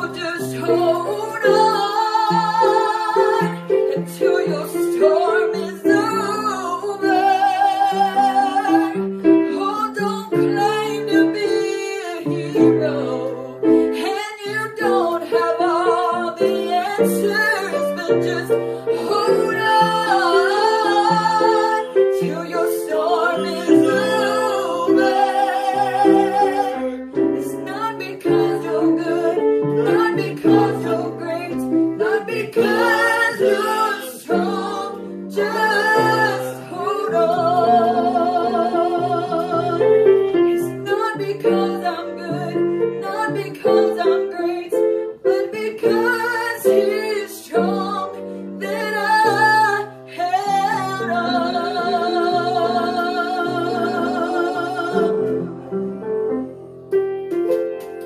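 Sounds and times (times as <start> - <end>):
woman singing with vibrato: 0.0 - 55.4
grand piano: 0.0 - 58.0.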